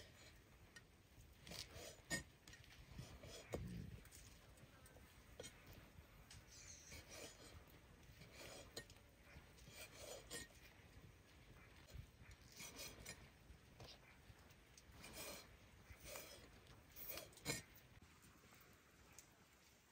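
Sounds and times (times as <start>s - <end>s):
faint scraping and rubbing: 0.0s - 19.9s.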